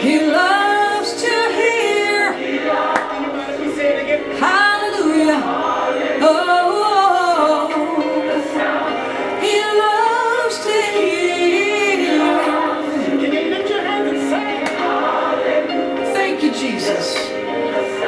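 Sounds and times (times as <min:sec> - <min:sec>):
group singing a gospel song: 0:00.0 - 0:18.0.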